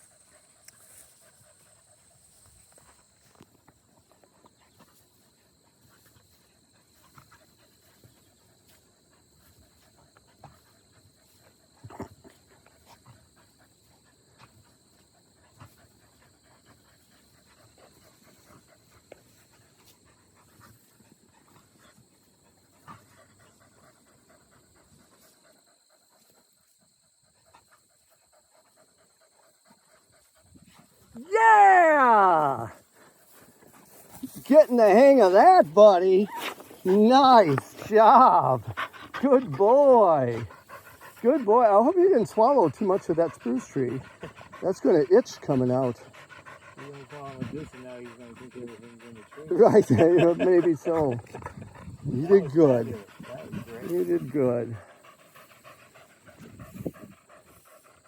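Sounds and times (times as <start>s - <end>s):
dog panting faintly: 0.0s - 58.0s.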